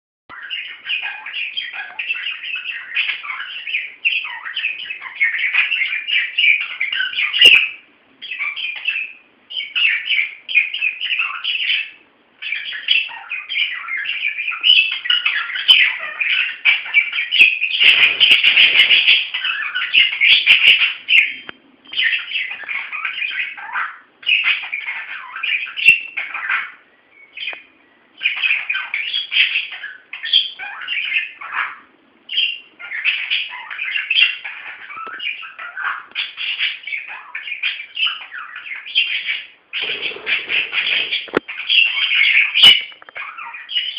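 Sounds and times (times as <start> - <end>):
budgerigars chattering and warbling: 0.3 - 43.9.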